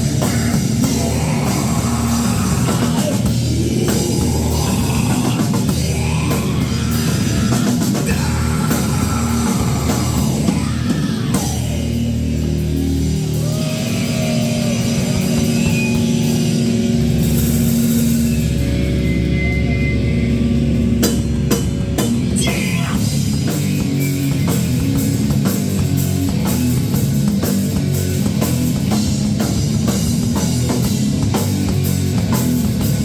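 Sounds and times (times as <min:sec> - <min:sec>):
drum kit pounding: 0:00.0 - 0:19.4, 0:20.0 - 0:33.0
rock band playing live: 0:00.0 - 0:33.0.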